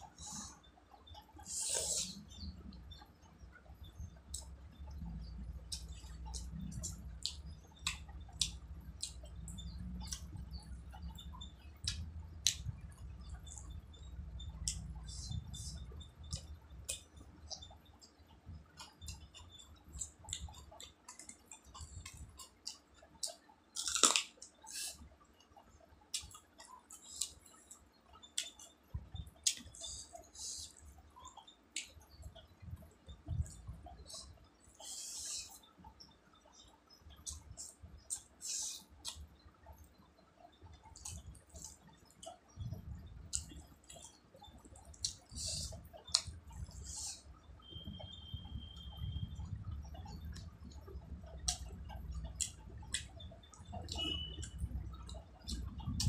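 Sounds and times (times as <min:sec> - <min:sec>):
wet chewing and mouth clicks: 0:00.1 - 0:35.7, 0:36.5 - 0:56.0.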